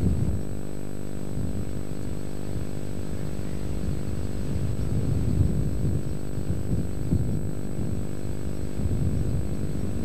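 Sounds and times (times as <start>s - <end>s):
low mechanical drone: 0.0s - 10.0s.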